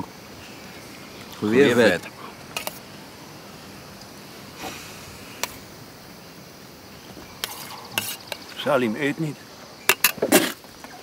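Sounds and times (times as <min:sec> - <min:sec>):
outdoor background ambience: 0:00.0 - 0:11.0
rustle: 0:00.0 - 0:11.0.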